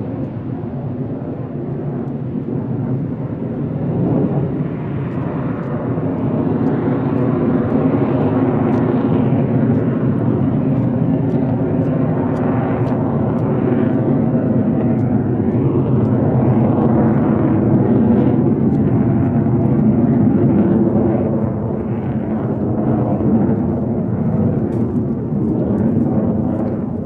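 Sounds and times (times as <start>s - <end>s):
loud jet rumble: 2.2s - 27.0s.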